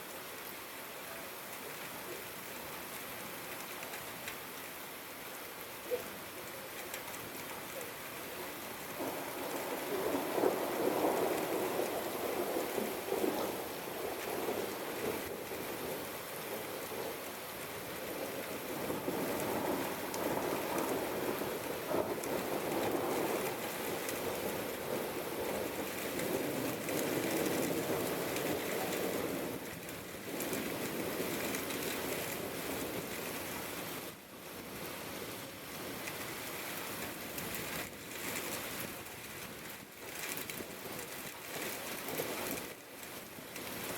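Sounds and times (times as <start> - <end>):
rain pattering on surfaces: 0.0 - 43.9.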